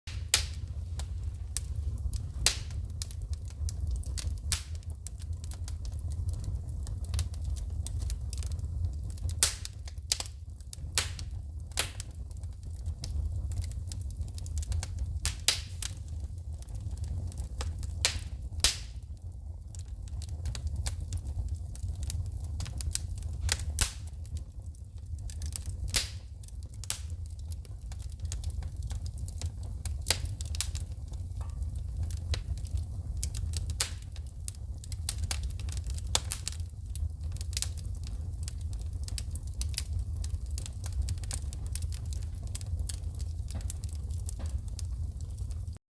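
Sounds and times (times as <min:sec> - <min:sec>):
wood fire crackling and popping: 0:00.1 - 0:45.8.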